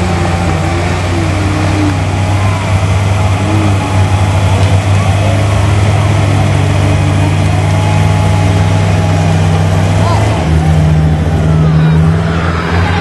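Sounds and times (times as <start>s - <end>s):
truck engine running loud: 0.0s - 13.0s.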